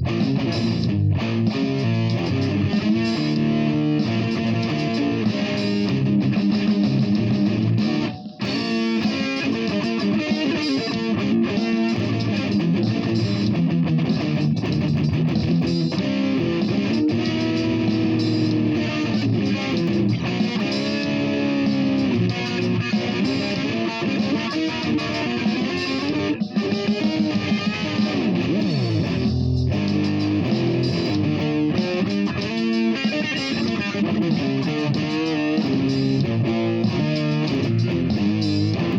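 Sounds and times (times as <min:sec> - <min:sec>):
electric guitar playing: 0:00.0 - 0:38.9.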